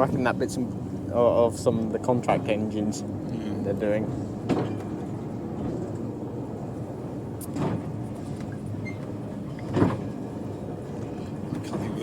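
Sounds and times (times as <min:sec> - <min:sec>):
diesel train engine rumble: 0:00.0 - 0:12.0.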